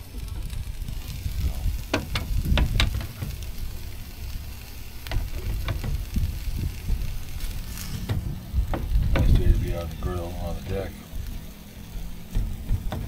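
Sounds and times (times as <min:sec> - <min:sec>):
low rumble: 0:00.0 - 0:13.0
sandwiches sizzling on griddle: 0:00.0 - 0:13.0.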